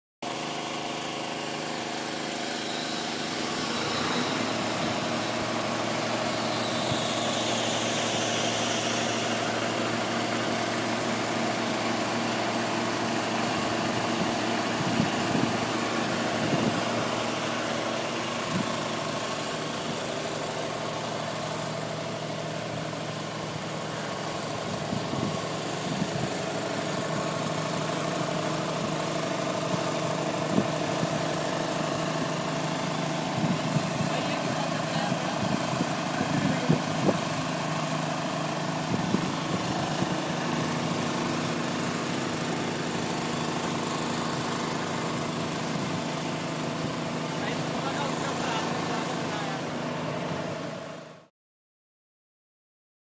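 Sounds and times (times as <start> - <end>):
generator engine running: 0.2 - 51.3.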